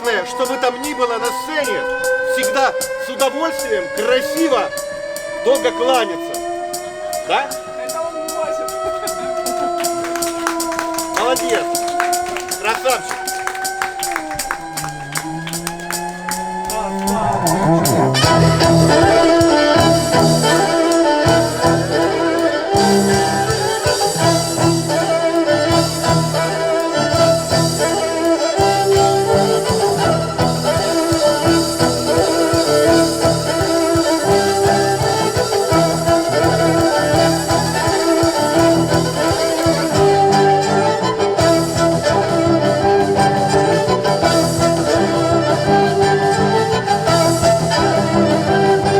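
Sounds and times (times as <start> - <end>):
live band playing: 0.0 - 48.9
pulsing bass line: 9.0 - 48.9.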